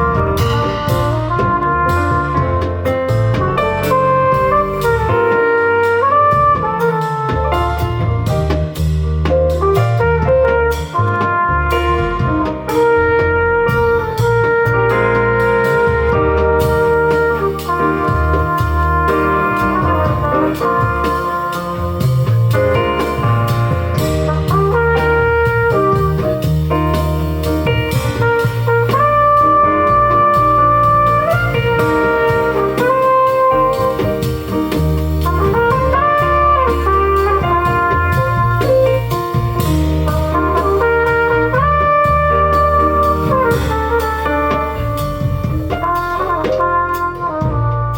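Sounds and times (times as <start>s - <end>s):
steady bass line: 0.0s - 47.9s.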